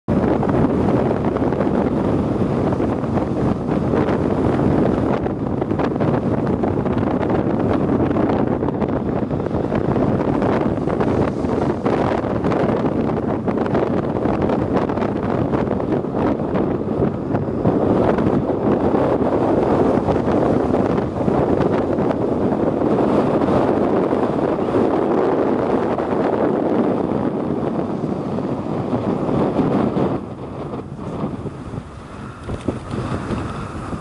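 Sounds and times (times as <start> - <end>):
wind buffeting microphone: 0.1 - 34.0.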